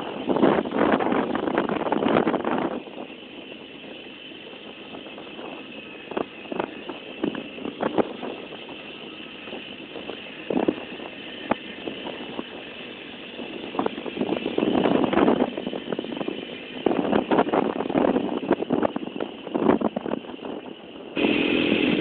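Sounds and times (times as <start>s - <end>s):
two-stroke motorcycle running: 0.0s - 22.0s.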